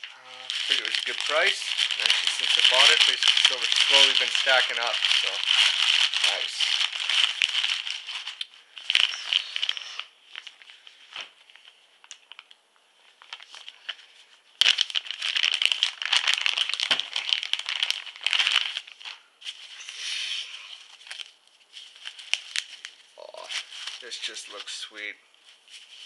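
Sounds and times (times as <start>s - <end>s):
packaging crinkling and tearing: 0.0s - 19.8s, 20.7s - 26.0s.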